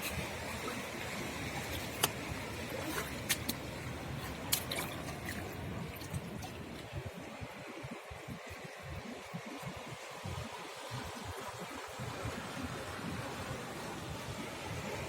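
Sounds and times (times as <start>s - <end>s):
seawater trickling among rocks: 0.0s - 12.9s.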